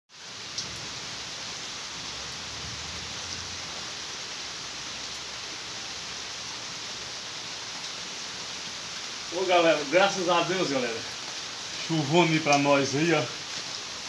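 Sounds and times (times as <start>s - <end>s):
steady rain hiss: 0.1s - 14.0s.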